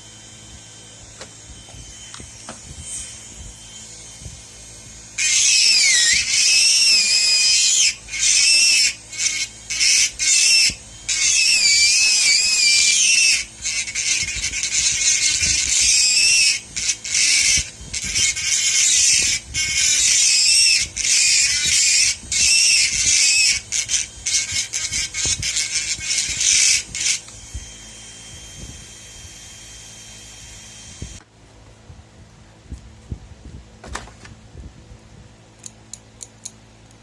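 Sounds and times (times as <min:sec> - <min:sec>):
dental handpiece grinding whine: 0:00.0 - 0:31.2.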